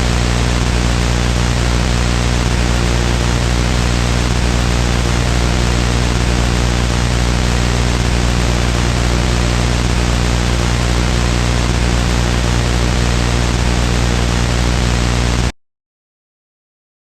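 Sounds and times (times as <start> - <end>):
low hum: 0.0 - 15.4
loud static hiss: 0.0 - 15.5.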